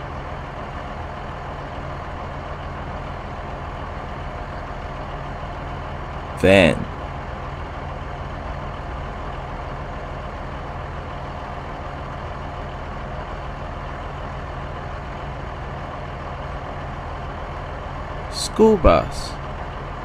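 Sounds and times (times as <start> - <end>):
van engine running steadily: 0.0 - 20.0.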